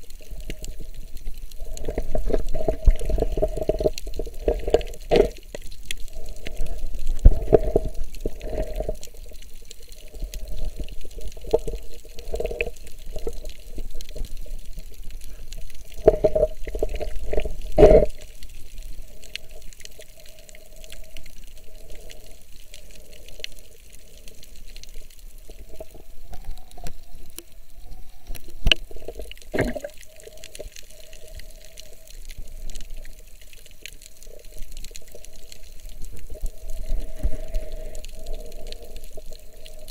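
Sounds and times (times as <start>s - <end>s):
muffled underwater water noise: 0.0s - 39.9s.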